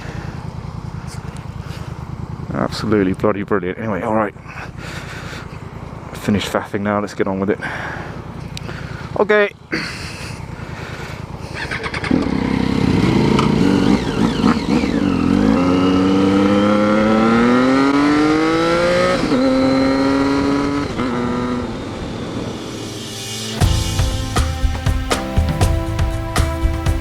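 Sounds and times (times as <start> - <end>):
motorcycle engine accelerating: 0.0 - 24.6.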